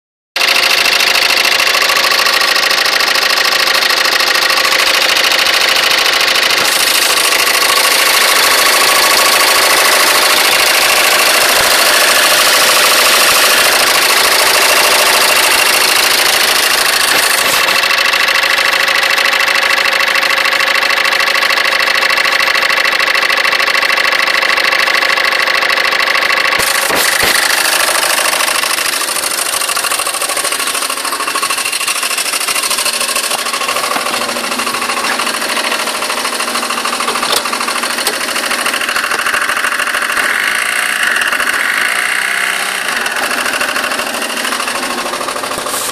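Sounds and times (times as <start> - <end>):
car engine running: 0.4 - 45.9.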